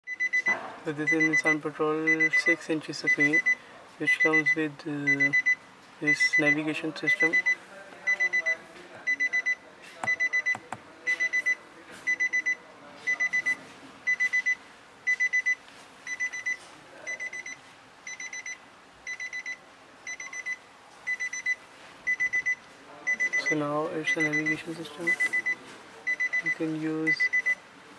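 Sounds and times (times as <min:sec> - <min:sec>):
vehicle warning chime beeping: 0:00.1 - 0:27.6.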